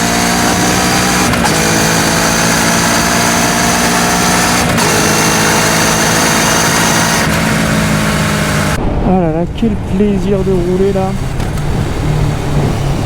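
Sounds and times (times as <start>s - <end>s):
motorcycle engine accelerating: 0.0s - 8.8s, 9.8s - 13.0s.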